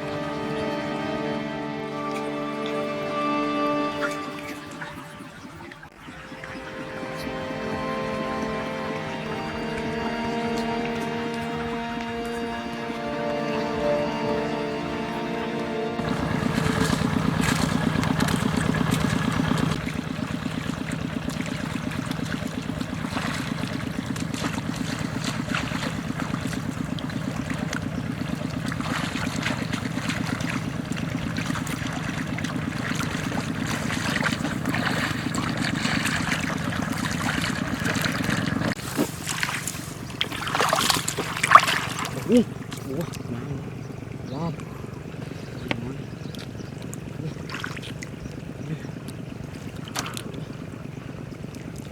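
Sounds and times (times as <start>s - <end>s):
small boat motor running: 0.0s - 51.9s.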